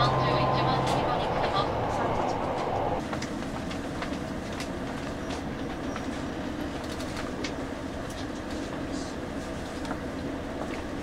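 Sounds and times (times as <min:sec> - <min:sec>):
railcar low rumble: 0:00.0 - 0:11.0.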